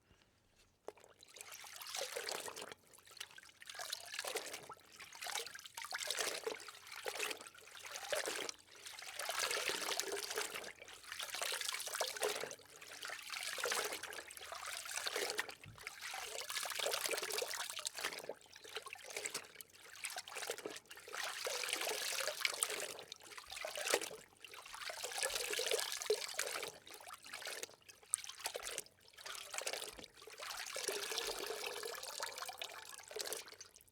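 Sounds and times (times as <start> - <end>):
water trickling and sloshing: 0.6 - 33.9.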